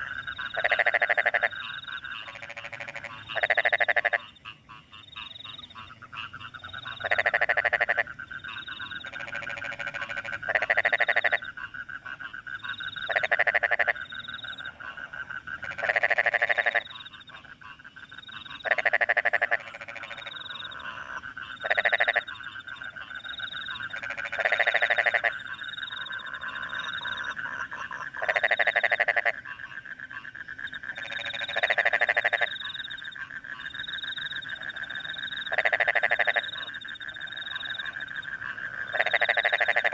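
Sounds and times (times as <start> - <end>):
crickets chirping: 0.0 - 5.9, 6.5 - 11.6, 12.4 - 39.9
frog chorus trilling: 0.0 - 39.9
frogs croaking: 0.0 - 39.9.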